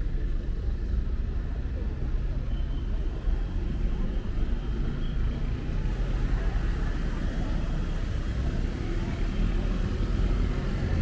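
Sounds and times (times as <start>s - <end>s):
faint street ambience: 0.0s - 11.0s
road traffic rumble: 0.0s - 11.0s.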